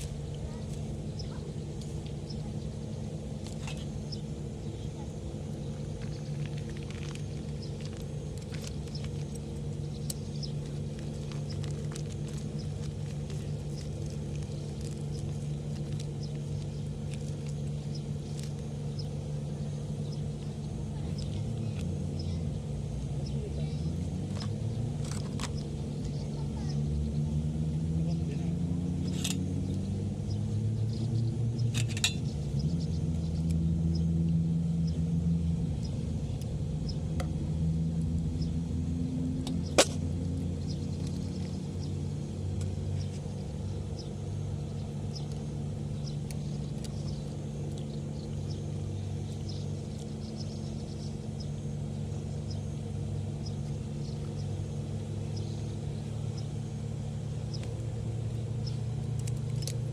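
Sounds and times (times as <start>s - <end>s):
low engine-like rumble: 0.0s - 59.9s.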